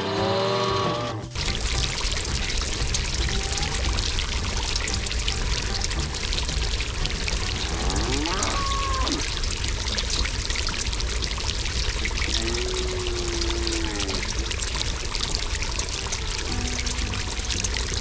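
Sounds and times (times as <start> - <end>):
water pouring: 0.6 - 18.0.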